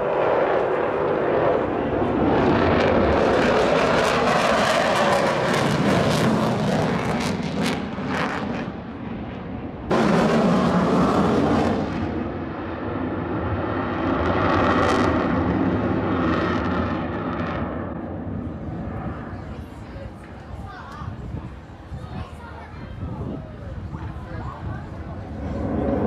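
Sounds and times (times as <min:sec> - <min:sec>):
airplane engine noise: 0:00.0 - 0:26.0.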